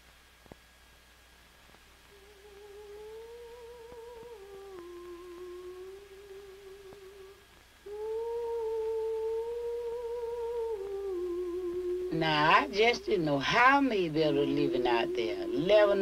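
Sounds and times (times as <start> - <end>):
person humming a slow tune: 2.0 - 16.0.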